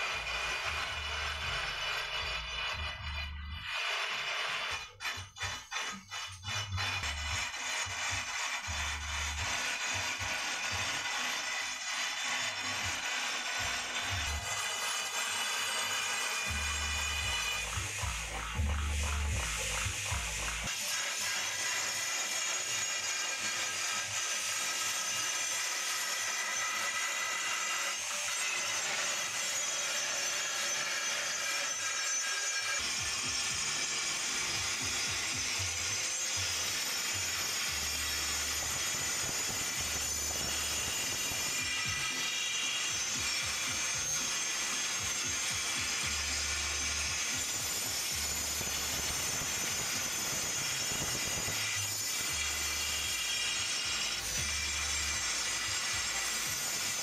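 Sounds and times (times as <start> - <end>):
steel bar scraping stone on lathe: 0.0 - 57.0.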